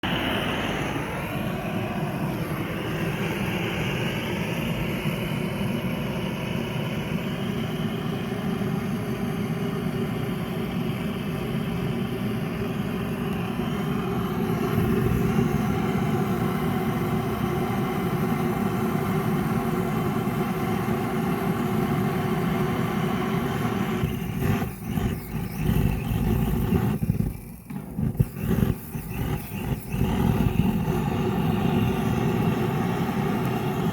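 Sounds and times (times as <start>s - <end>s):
gas torch flame roaring: 0.0s - 33.9s.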